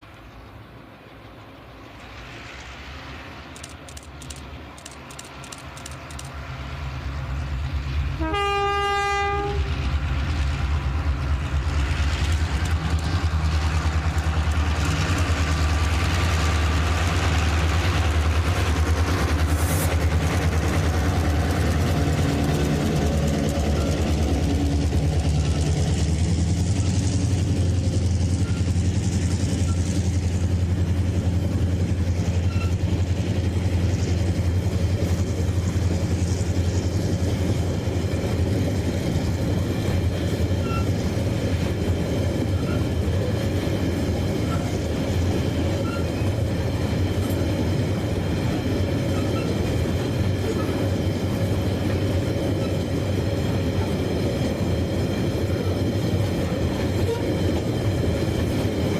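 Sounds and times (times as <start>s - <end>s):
train rumbling along track: 0.0s - 58.9s.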